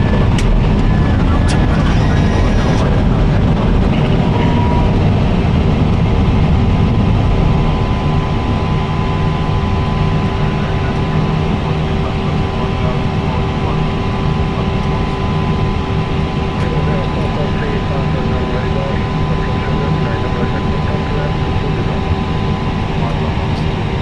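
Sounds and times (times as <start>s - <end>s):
aircraft engine rumble: 0.0s - 24.0s
steady cockpit hum: 0.0s - 24.0s.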